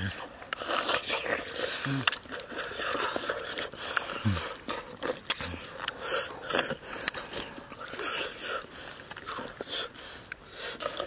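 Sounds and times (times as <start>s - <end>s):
person slurping and chewing: 0.0s - 11.0s.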